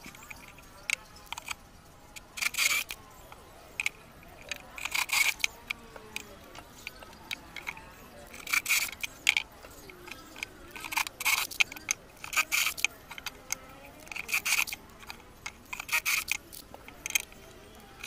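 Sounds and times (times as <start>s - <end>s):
sharp clicks: 0.0s - 18.0s.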